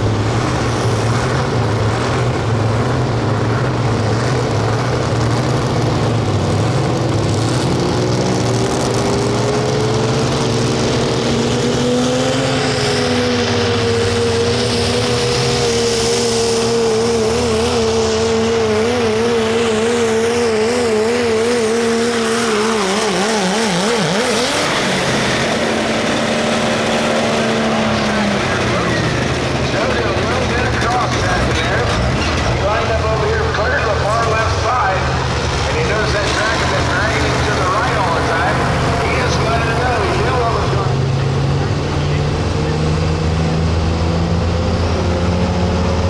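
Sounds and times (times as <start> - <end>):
pickup truck engine under load: 0.0 - 46.0.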